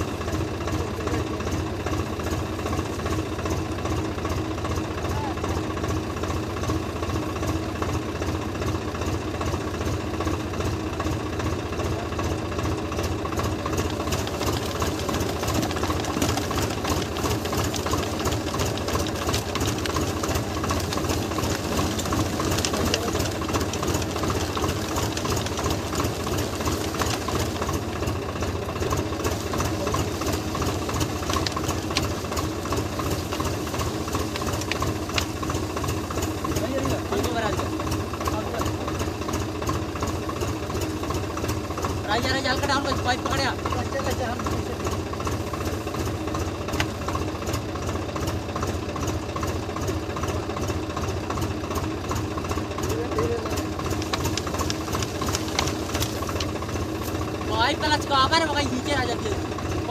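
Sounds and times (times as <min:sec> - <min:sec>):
tractor diesel engine clatter: 0:00.0 - 0:59.9.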